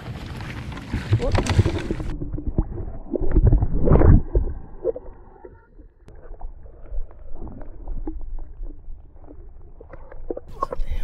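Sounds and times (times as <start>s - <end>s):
water splashing: 0.0s - 5.5s, 6.1s - 11.0s
muffled underwater sloshing: 0.1s - 11.0s.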